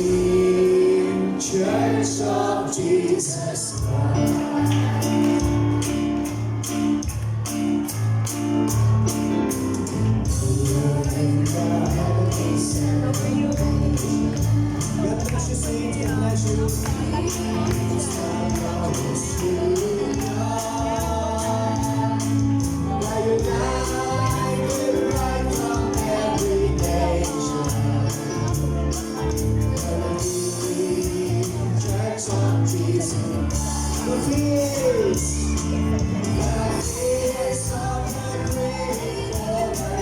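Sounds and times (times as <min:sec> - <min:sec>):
gospel voices singing: 0:00.0 - 0:40.0.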